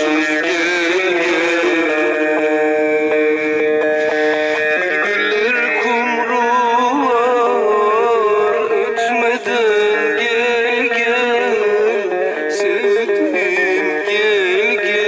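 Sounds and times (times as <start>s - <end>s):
middle eastern music from speaker: 0.0s - 15.0s.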